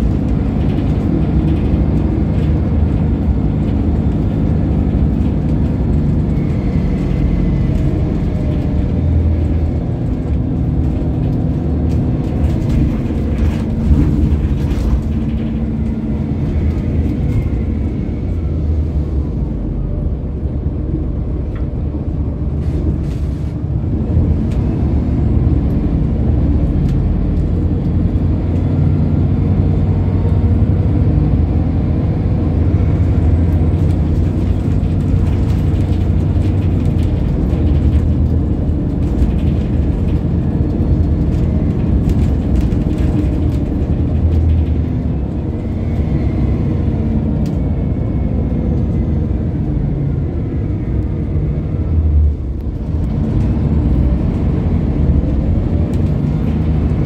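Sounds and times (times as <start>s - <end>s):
bus engine drone from inside: 0.0s - 57.0s.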